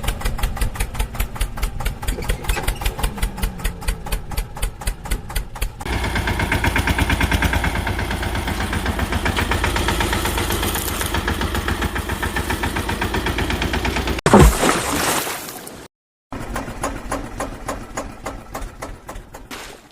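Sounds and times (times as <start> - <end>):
diesel engine knocking: 0.0 - 14.2, 16.3 - 19.5.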